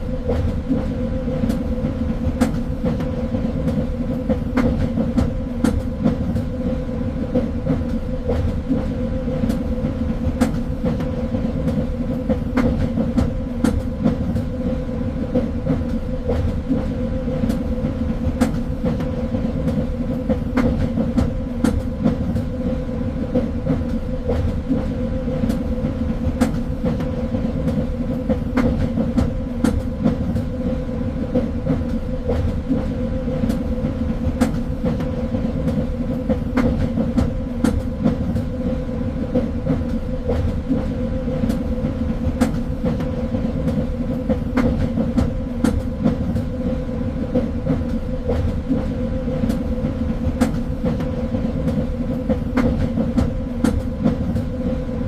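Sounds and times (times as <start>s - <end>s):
train rumbling on track: 0.0s - 55.0s.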